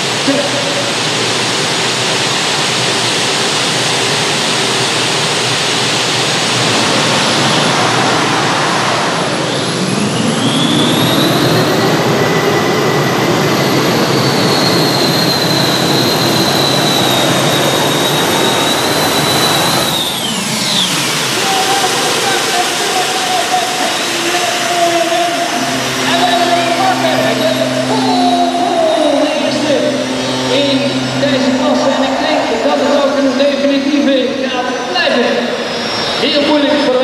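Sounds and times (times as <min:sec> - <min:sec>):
high whine: 0:00.0 - 0:37.0
tractor engines running loud: 0:00.0 - 0:37.0.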